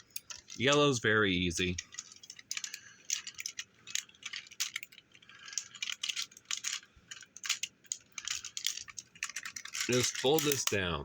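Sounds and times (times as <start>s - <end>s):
plastic toy parts clicking: 0.0s - 0.9s, 1.6s - 11.0s.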